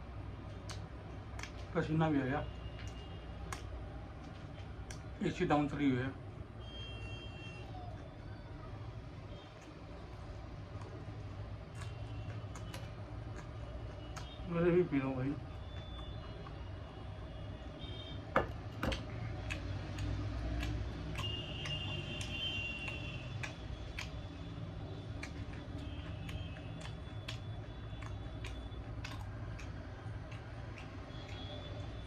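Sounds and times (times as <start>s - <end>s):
chewing smacking clicks: 0.2s - 1.7s, 2.6s - 5.2s, 7.7s - 32.0s.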